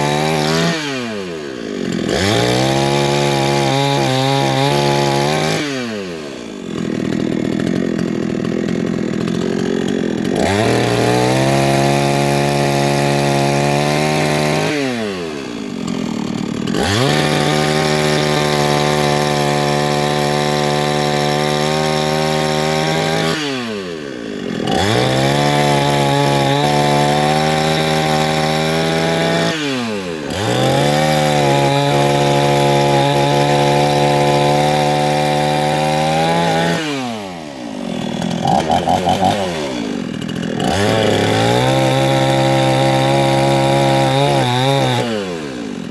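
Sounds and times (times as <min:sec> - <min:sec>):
chainsaw cutting logs: 0:00.0 - 0:45.9.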